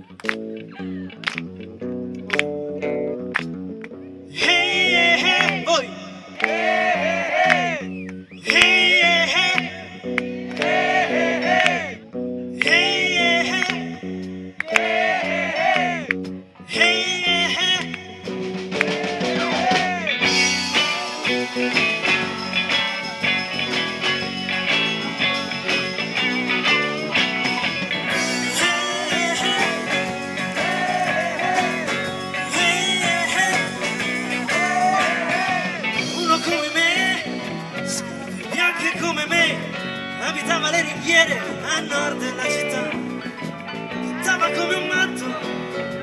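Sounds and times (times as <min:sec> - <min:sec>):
drums: 0:00.0 - 0:12.0, 0:12.6 - 0:46.0
bass guitar: 0:00.0 - 0:46.0
electric guitars: 0:00.0 - 0:46.0
keyboards: 0:00.0 - 0:46.0
lead vocals: 0:04.2 - 0:23.9, 0:25.9 - 0:46.0.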